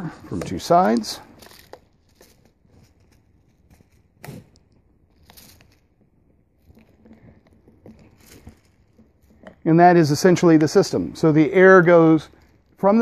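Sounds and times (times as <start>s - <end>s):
soft clicks and rustles: 0.2s - 13.0s.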